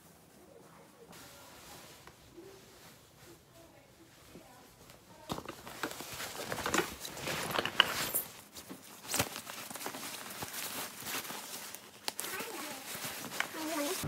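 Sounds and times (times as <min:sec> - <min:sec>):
bag and clothing rustling: 0:00.0 - 0:14.0.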